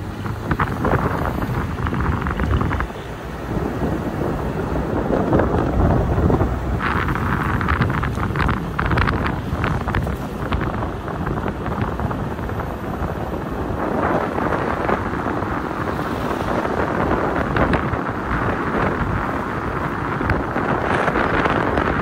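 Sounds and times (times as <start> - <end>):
pickup truck road noise: 0.0 - 22.0
wind buffeting microphone: 0.0 - 22.0.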